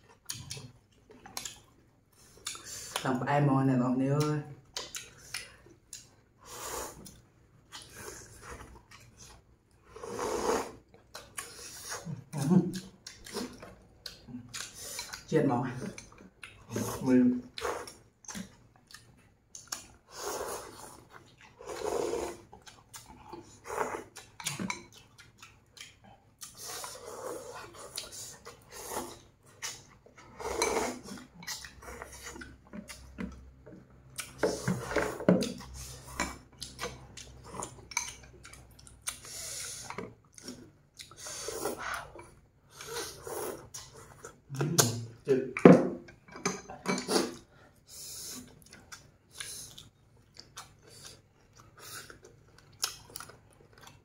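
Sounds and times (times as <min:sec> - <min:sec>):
chewing: 0:00.0 - 0:03.0, 0:04.2 - 0:45.4, 0:46.0 - 0:54.0
slurping noodles and broth: 0:04.8 - 0:12.3, 0:13.1 - 0:33.5, 0:34.2 - 0:45.2, 0:46.7 - 0:54.0.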